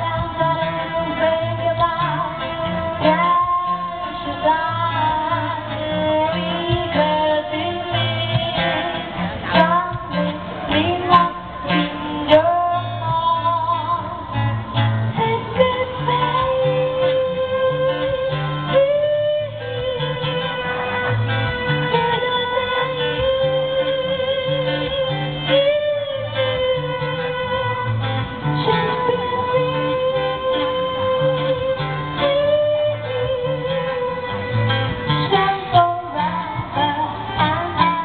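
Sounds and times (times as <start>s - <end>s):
person singing: 0.0s - 38.0s
plucked and strummed guitar: 0.0s - 38.0s
steady bass line: 0.0s - 38.0s.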